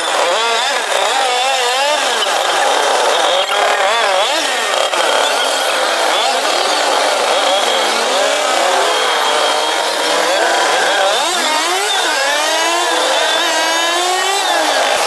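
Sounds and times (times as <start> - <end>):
auto-rickshaw engine revving: 0.0 - 15.0.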